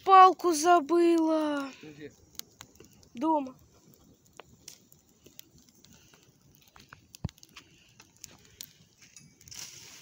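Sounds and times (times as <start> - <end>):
bonfire crackling: 0.0 - 10.0
sharp pops and cracks of fire: 0.0 - 10.0.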